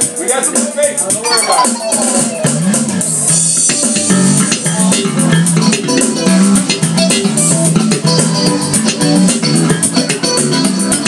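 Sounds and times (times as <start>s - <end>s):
backing track of drums and guitar: 0.0s - 11.0s
electric bass guitar: 1.3s - 11.0s.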